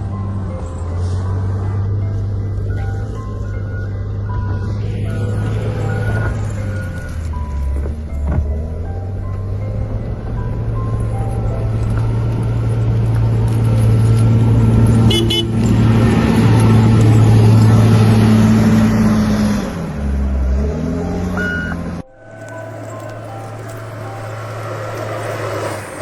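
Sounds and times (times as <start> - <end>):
heavy machine engine under load: 0.0 - 26.0
quieter engine running: 0.0 - 26.0.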